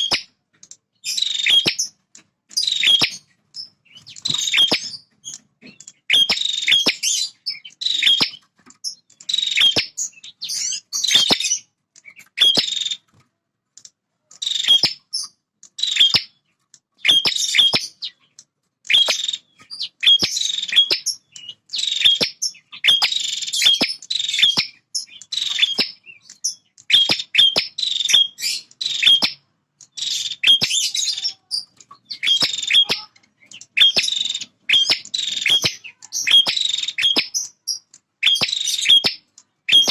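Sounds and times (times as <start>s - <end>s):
bird singing high chirps: 0.0s - 13.1s, 14.3s - 39.9s.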